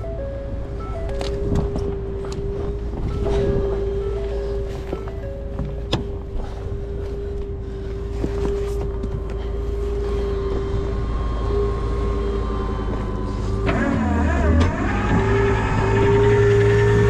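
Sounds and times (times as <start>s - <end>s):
hydraulic whine: 0.0s - 17.0s
truck engine running: 0.0s - 17.0s.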